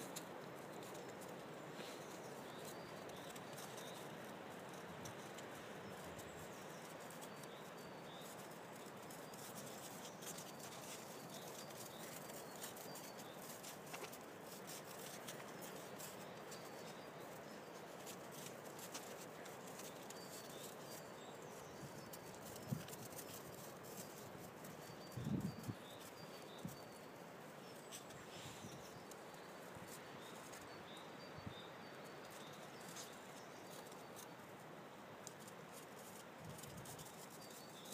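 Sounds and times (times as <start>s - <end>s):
puppies rustling and scuffing: 0.0s - 37.9s
steady outdoor hiss: 0.0s - 37.9s.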